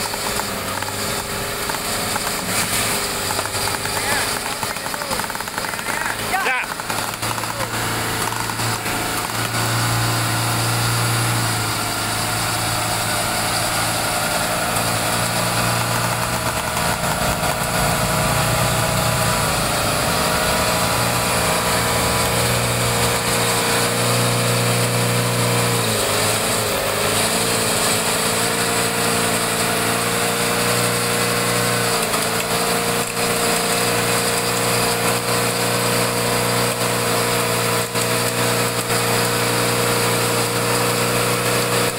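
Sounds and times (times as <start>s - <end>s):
electric winch whining: 0.0s - 41.9s
vehicle engine running: 0.0s - 41.9s.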